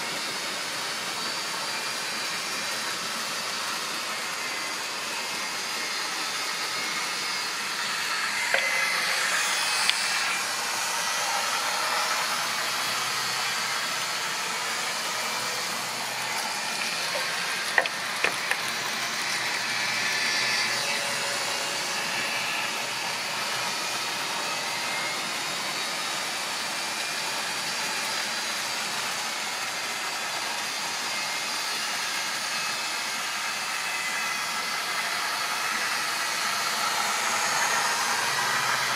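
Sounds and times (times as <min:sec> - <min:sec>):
model train motors whirring: 0:00.0 - 0:38.9.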